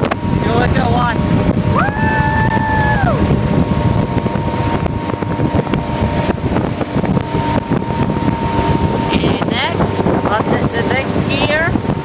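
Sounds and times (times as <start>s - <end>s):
motorboat running at speed: 0.0s - 12.0s
wake rushing: 0.0s - 12.0s
wind buffeting microphone: 0.0s - 12.0s.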